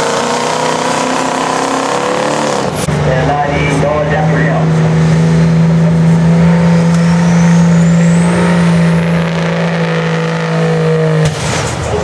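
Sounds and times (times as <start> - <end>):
diesel engine under heavy load: 0.0 - 12.0
thin rising whine: 0.6 - 11.0.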